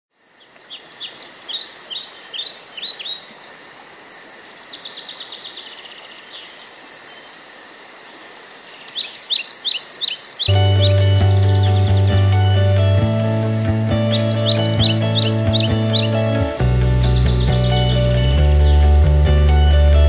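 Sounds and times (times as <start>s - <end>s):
background hiss: 0.2s - 20.0s
songbirds chirping: 0.2s - 20.0s.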